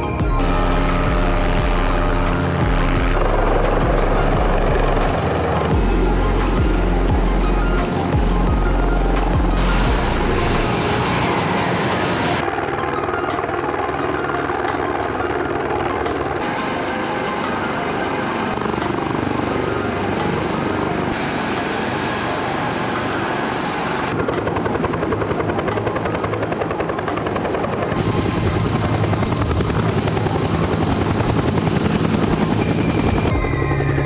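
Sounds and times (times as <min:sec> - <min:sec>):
helicopter rotor beating: 0:00.0 - 0:34.0
helicopter turbine and rotor: 0:00.0 - 0:34.0.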